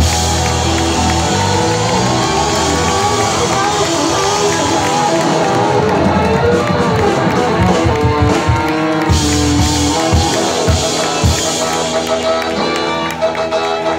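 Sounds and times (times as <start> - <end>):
sustained guitar chords: 0.0 - 13.9.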